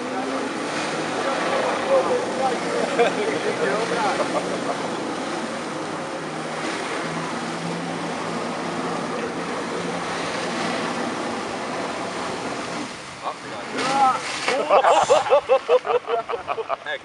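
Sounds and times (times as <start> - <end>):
pump engine hum: 0.0 - 17.0
water jets spraying onto lake: 0.0 - 17.0.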